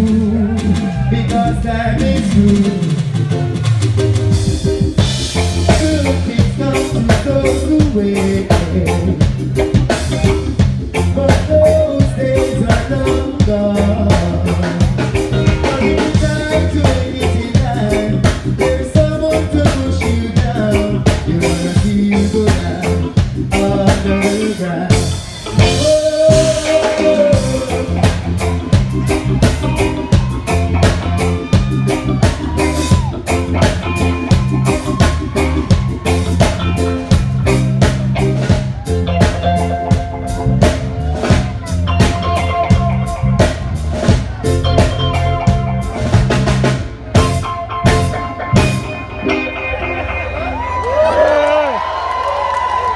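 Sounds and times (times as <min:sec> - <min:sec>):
bass guitar: 0:00.0 - 0:52.9
drum kit: 0:00.0 - 0:52.9
electric guitar: 0:00.0 - 0:52.9
keyboards: 0:00.0 - 0:52.9.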